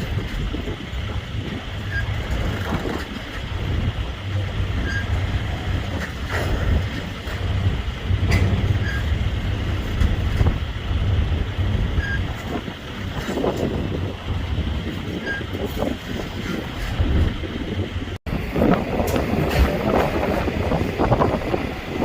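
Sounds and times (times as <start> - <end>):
freight train rumbling: 0.0 - 22.0.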